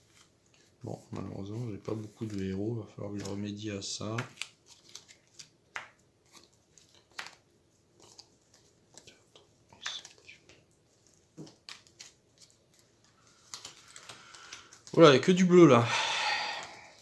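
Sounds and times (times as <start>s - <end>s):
cards tapping and rustling: 0.0s - 15.3s.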